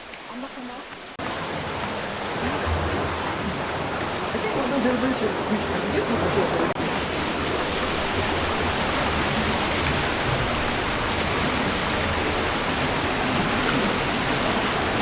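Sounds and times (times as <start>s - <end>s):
waterfall roaring: 0.1s - 15.0s.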